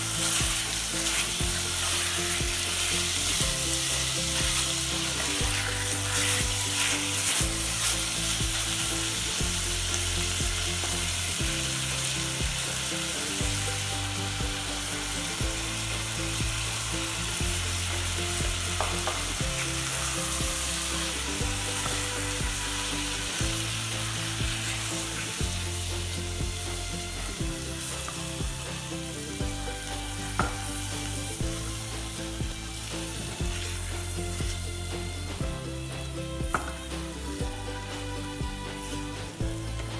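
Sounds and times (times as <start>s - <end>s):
meat and onion sizzling in pot: 0.0s - 39.9s.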